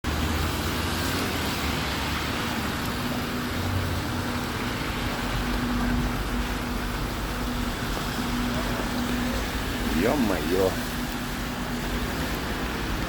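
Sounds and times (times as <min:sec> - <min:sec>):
traffic on wet street: 0:00.0 - 0:13.0
rain hiss: 0:00.1 - 0:13.0.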